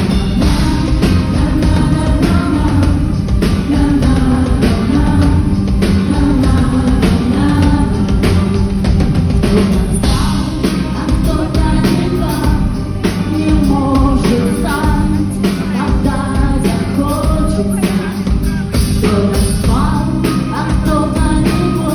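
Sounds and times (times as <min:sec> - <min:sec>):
pop-rock song: 0:00.0 - 0:21.9
woman singing: 0:00.4 - 0:08.8, 0:09.4 - 0:21.9.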